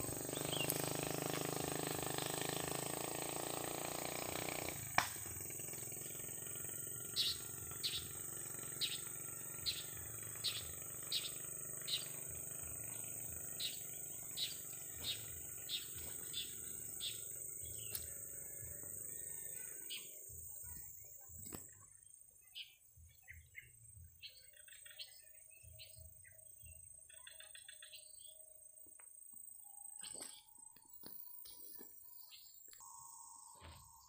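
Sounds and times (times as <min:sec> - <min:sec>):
bird chirping: 0:00.0 - 0:01.3, 0:05.8 - 0:34.0
high-pitched insect drone: 0:00.0 - 0:22.4, 0:25.8 - 0:34.0.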